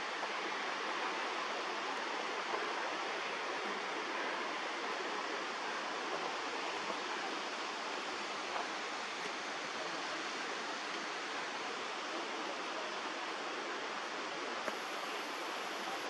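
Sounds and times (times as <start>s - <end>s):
mountain creek rushing: 0.0s - 16.0s.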